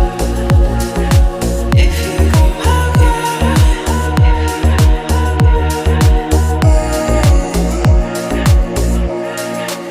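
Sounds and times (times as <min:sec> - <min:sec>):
kick drum with bass sweep: 0:00.0 - 0:09.1.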